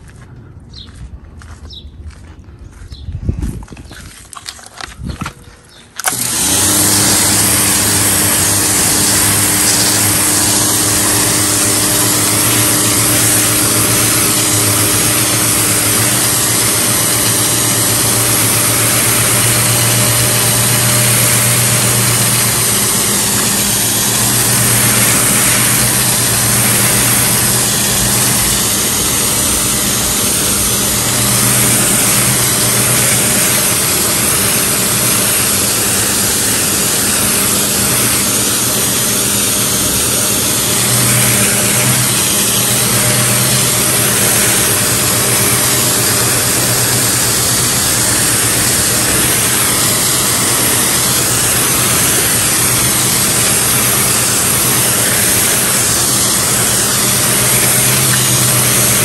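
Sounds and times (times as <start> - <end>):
pressure washer jet hissing: 6.0 - 59.0.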